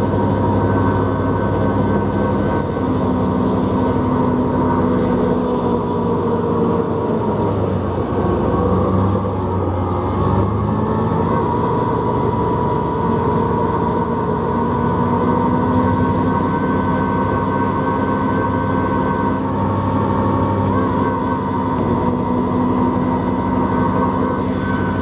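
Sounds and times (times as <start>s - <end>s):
high machine whines: 0.0s - 25.0s
ice resurfacer machine drone: 0.0s - 25.0s.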